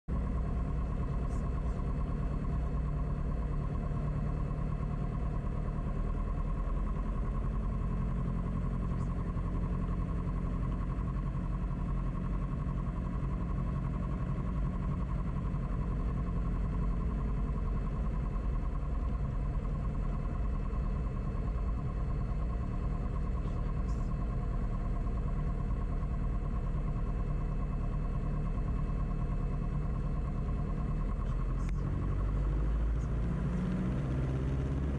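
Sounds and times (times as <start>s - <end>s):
propeller engine droning: 0.1s - 34.9s.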